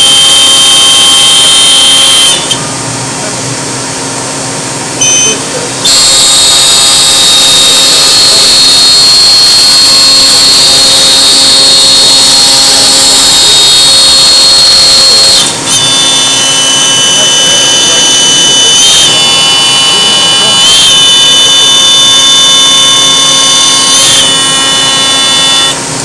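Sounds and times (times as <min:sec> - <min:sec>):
router spindle whining: 0:05.0 - 0:26.0.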